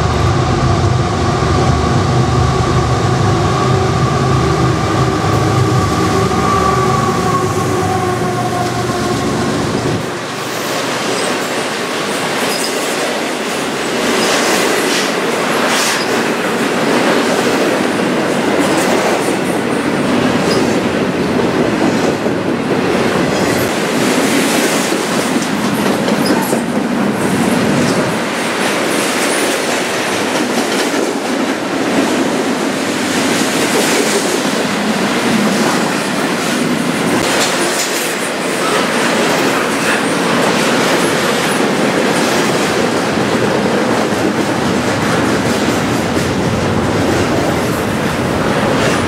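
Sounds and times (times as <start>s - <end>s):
train wheels rolling on rails: 0.0s - 49.0s.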